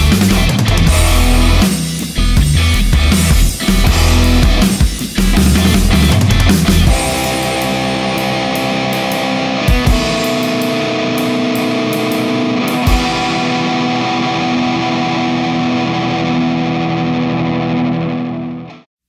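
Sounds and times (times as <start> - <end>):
rock music with distorted guitar: 0.0 - 18.9.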